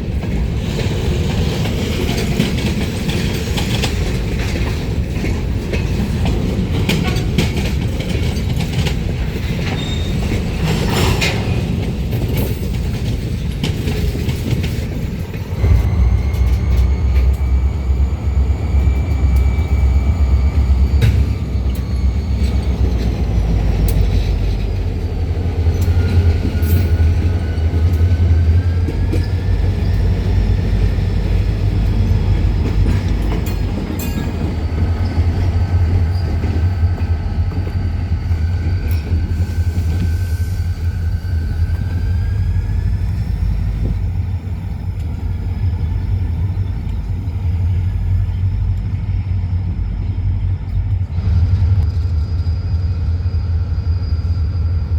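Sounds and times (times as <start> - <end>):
diesel locomotive rumbling: 0.0 - 54.9.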